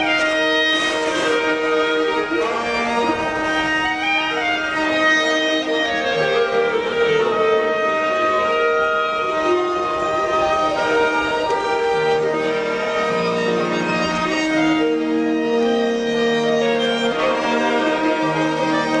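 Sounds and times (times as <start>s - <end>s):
other instruments beneath: 0.0s - 19.0s
violins playing melody: 0.0s - 19.0s.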